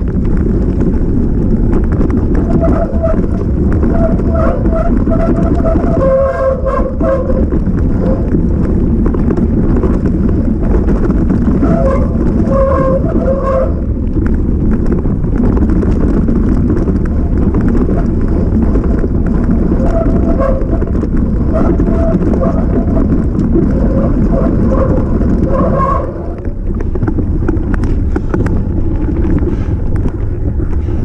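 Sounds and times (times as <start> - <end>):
tyres on rough ground: 0.0 - 31.0
wind buffeting microphone: 0.0 - 31.0.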